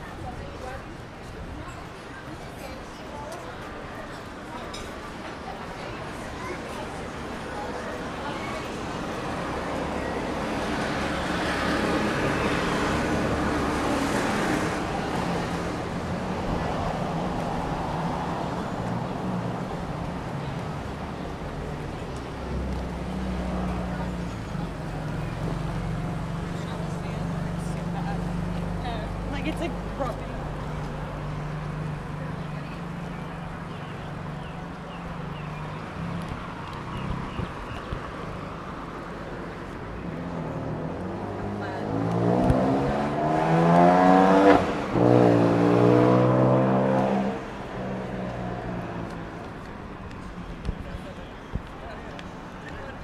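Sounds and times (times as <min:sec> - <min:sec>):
road traffic: 0:00.0 - 0:53.0
car engines running: 0:04.2 - 0:53.0.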